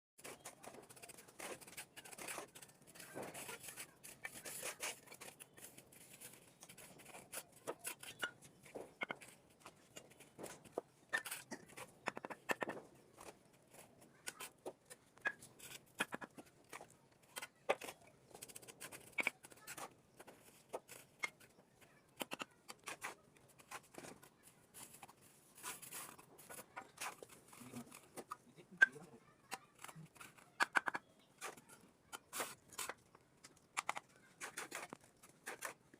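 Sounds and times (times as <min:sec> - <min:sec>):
trowel scraping mortar: 0:00.2 - 0:35.9.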